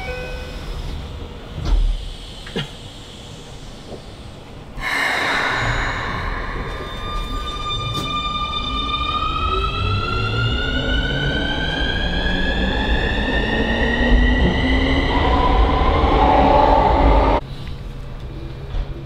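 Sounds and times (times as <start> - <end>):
low train rumble: 0.0 - 19.0.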